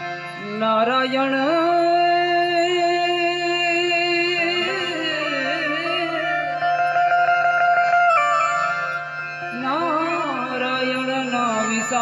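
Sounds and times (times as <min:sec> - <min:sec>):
person singing devotional song: 0:00.0 - 0:07.7, 0:09.5 - 0:12.0
harmonium: 0:00.0 - 0:12.0.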